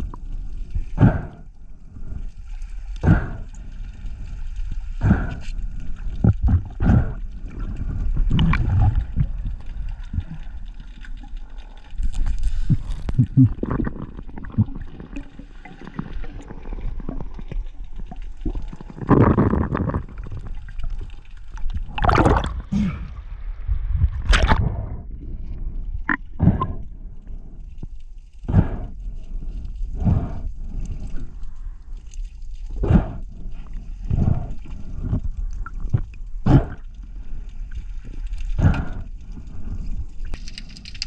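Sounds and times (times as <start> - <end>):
water gurgling and sloshing: 0.0 - 41.0.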